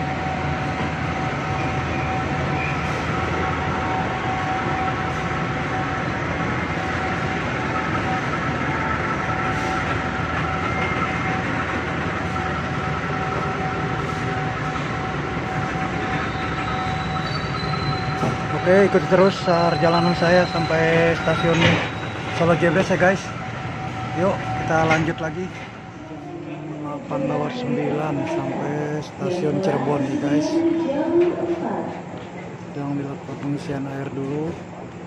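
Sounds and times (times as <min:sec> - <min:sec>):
train carriage rumbling: 0:00.0 - 0:35.0.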